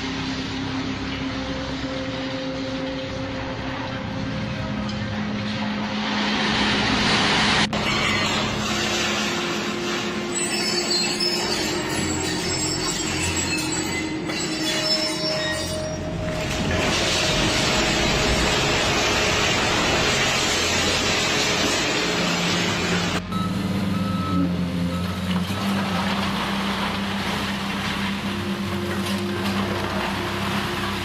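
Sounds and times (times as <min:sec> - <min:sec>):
demolition machinery noise: 0:00.0 - 0:31.0
diesel engine running: 0:00.0 - 0:31.0.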